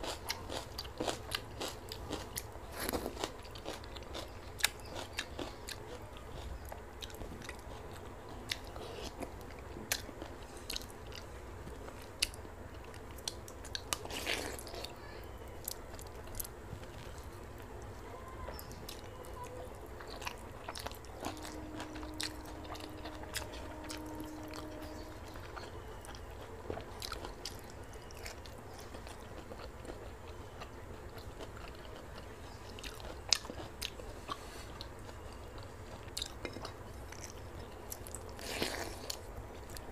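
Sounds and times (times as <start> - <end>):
person chewing and crunching food: 0.0 - 39.9
steady low hum: 0.0 - 39.9.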